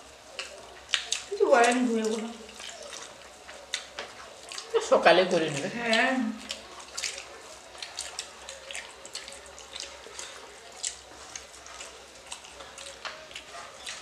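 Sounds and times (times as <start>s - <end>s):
fingers mixing wet rice: 0.0s - 14.0s
mouths chewing: 0.0s - 14.0s.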